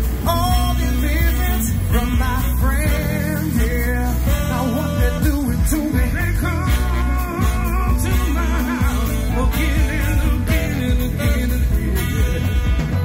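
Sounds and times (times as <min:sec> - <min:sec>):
horn band playing soul music: 0:00.0 - 0:13.0
person singing: 0:00.1 - 0:13.0.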